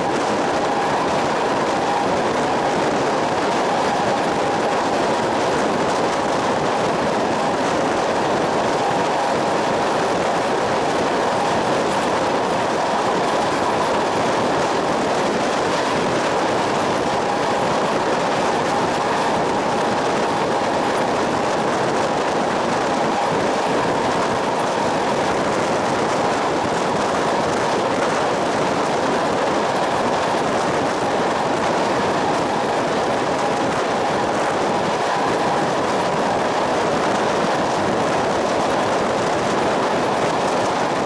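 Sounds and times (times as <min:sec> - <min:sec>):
train rolling on track: 0:00.0 - 0:41.0.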